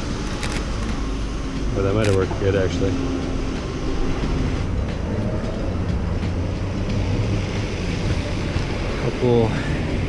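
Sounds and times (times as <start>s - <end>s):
bus running: 0.0s - 10.0s
road traffic rumble: 0.0s - 10.0s
tyres hissing on wet street: 0.0s - 10.0s.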